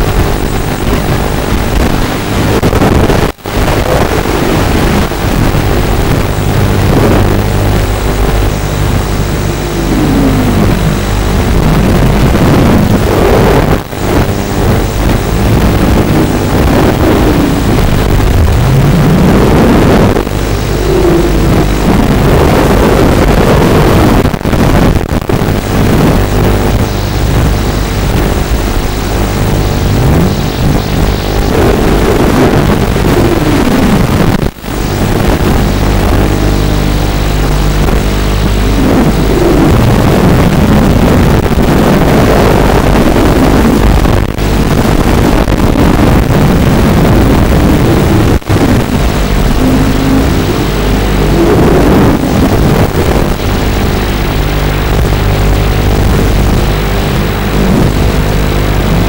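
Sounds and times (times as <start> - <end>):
drone propellers whirring: 0.0 - 59.0
wind rush: 0.0 - 59.0.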